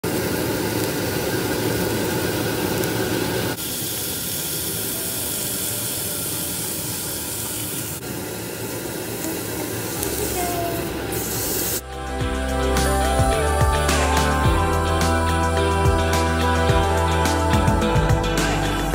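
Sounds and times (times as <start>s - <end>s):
steak sizzling on grill pan: 0.1s - 18.9s.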